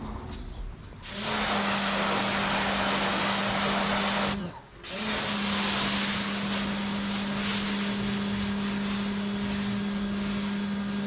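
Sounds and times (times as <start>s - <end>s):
high-pressure spray hissing on concrete: 1.0s - 11.0s
pressure washer motor hum: 1.0s - 11.0s.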